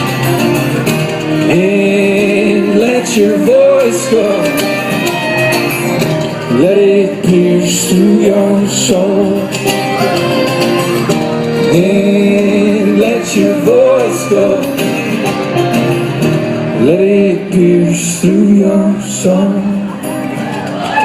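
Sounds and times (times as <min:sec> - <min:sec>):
plucked strings: 0:00.0 - 0:17.6
acoustic folk band playing: 0:00.0 - 0:21.0.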